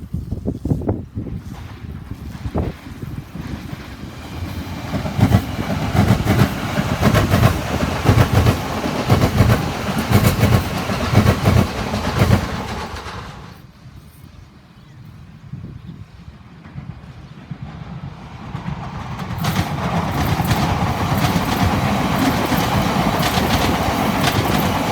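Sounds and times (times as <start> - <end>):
train wheels clacking over rail joints: 1.4 - 13.6, 16.6 - 24.9.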